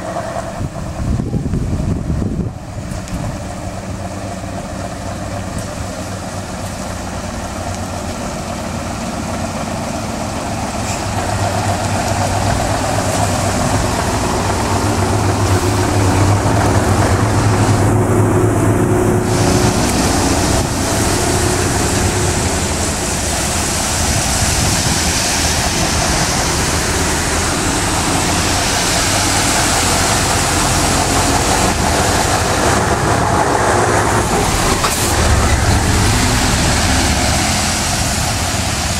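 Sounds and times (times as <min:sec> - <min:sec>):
truck diesel engine: 0:00.0 - 0:38.9
tyres hissing on wet road: 0:00.0 - 0:38.9.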